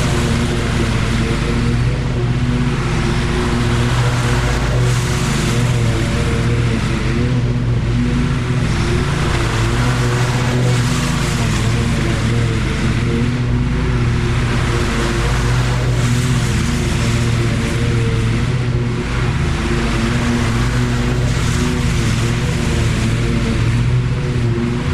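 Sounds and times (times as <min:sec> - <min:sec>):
lawn mower engine running: 0:00.0 - 0:24.9.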